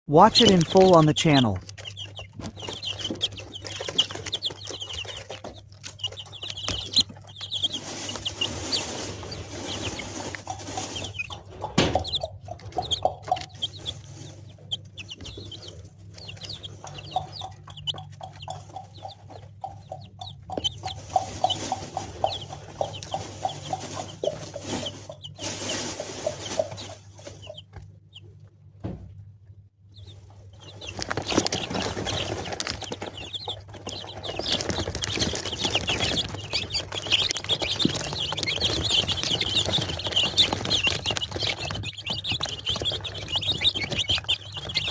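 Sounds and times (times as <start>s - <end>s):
chickens clucking: 0.1s - 28.8s, 29.4s - 44.9s
chicks peeping: 0.2s - 44.9s.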